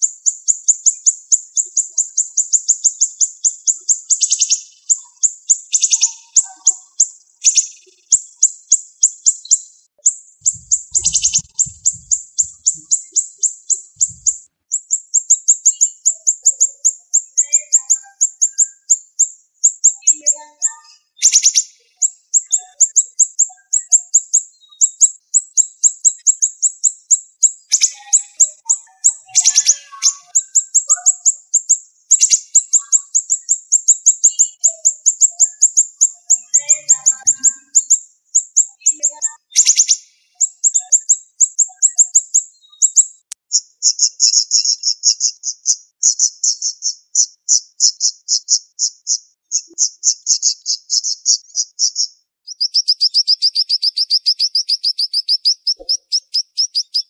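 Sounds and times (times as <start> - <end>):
bird singing rapid high chips: 0.0 - 57.0
sharp bird calls: 0.0 - 57.0.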